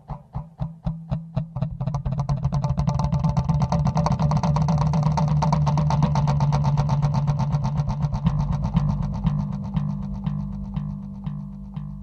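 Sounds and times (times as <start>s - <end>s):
electric bass fast low notes: 0.0s - 12.0s.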